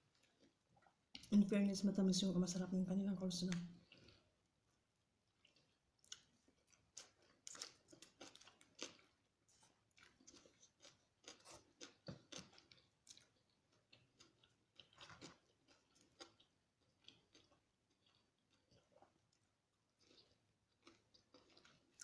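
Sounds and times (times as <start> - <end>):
person chewing food: 0.0 - 1.3, 3.7 - 22.0.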